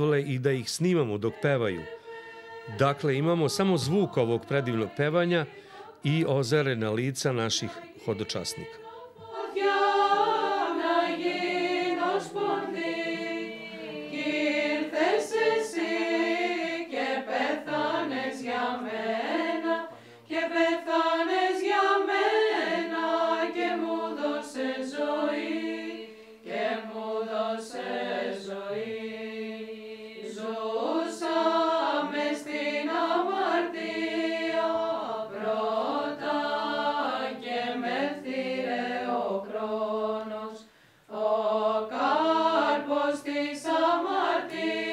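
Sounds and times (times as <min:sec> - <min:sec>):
choir of women singing a hymn: 0:00.9 - 0:06.5, 0:07.3 - 0:44.9.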